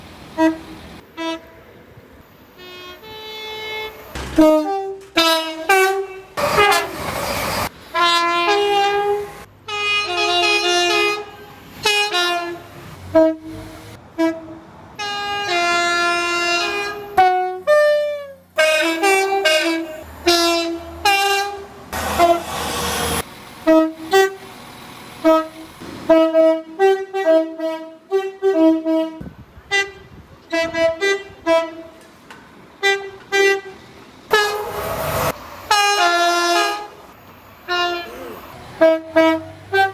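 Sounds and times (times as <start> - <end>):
train passing rush: 0.0 - 9.5, 11.2 - 17.3, 18.6 - 26.2, 30.8 - 39.9
two-tone train horn blasts: 0.4 - 1.8, 2.5 - 7.1, 7.9 - 24.4, 25.2 - 32.1, 32.8 - 37.0, 37.6 - 39.9.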